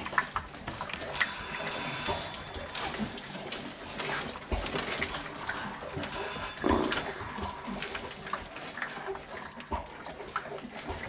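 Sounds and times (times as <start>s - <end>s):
puppies whining and grunting: 1.4s - 11.0s.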